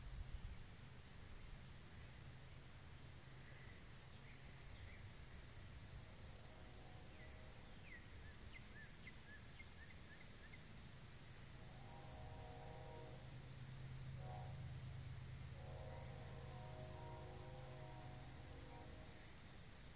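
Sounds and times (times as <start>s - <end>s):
insects chirping: 0.0s - 19.9s.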